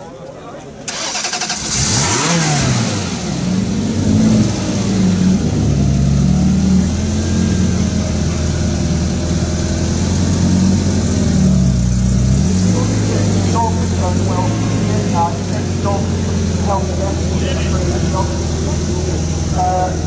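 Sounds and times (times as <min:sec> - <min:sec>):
car engine idling: 0:00.8 - 0:20.0.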